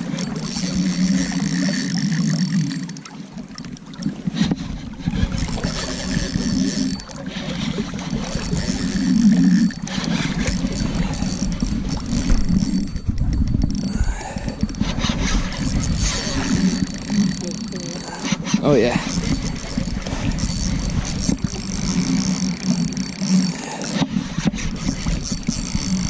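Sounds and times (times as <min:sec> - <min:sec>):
fishing reel cranking: 0:00.0 - 0:26.0.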